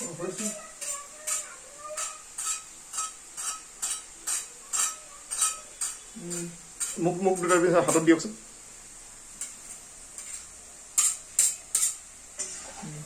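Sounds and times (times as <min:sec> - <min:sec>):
metal spoon striking a pan: 0:00.0 - 0:08.1, 0:09.4 - 0:12.6
hot oil sizzling: 0:00.0 - 0:13.0.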